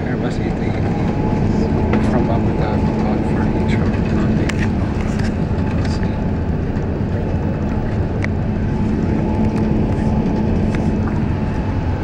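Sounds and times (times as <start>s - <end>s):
airliner cabin rumble and hiss: 0.0s - 12.0s.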